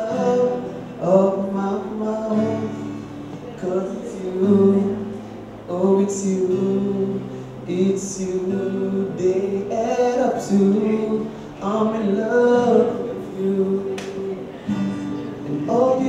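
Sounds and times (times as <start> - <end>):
acoustic guitar: 0.0 - 16.0
man singing into a microphone: 0.0 - 16.0.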